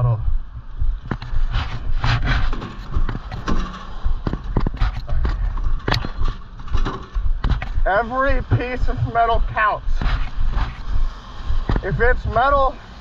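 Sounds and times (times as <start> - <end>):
wind buffeting microphone: 0.0 - 13.0
footsteps on wet pavement: 0.8 - 12.8.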